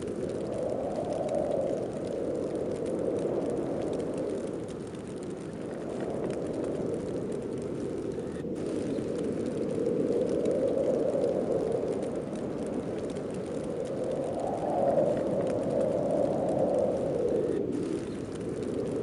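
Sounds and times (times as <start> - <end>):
howling wind in gusts: 0.0 - 19.0.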